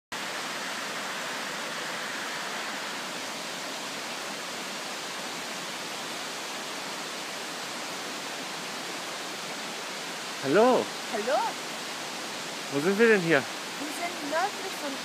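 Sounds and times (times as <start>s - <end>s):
waterfall rushing over rocks: 0.1s - 15.0s.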